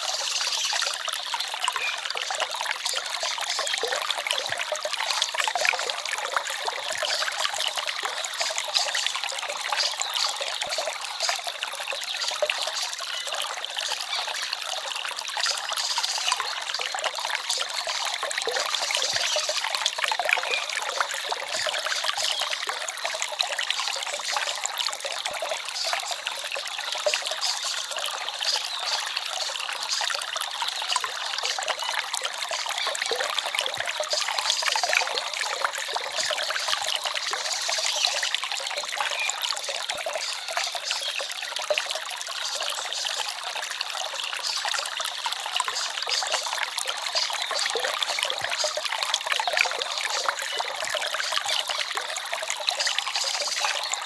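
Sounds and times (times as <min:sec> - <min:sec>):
forest stream trickling: 0:00.0 - 0:54.0.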